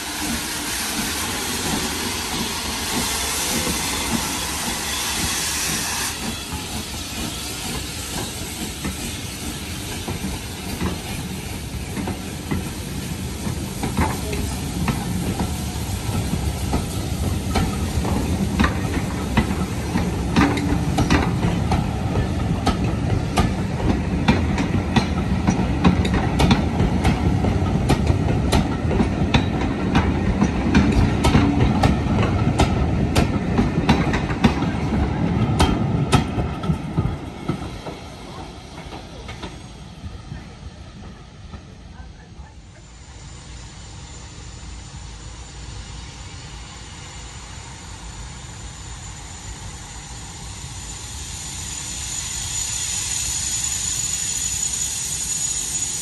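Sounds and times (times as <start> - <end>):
locomotive steam hiss: 0.0 - 56.0
train rumble: 0.0 - 56.0.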